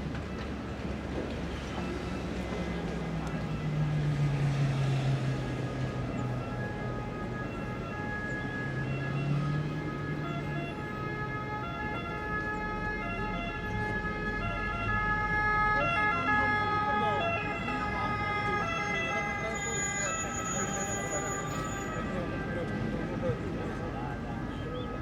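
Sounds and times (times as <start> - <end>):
street traffic rumble: 0.0 - 25.0
two-tone siren: 1.1 - 25.0.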